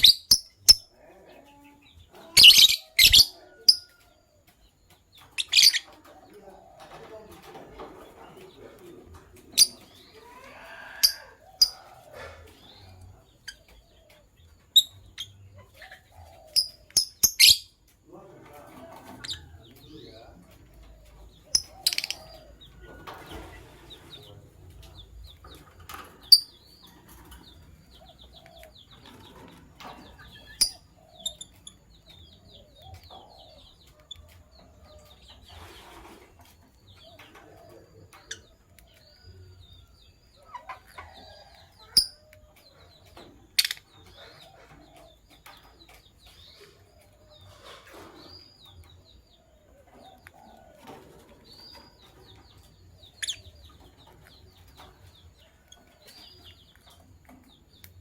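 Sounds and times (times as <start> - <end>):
birds twittering: 0.0 - 58.0.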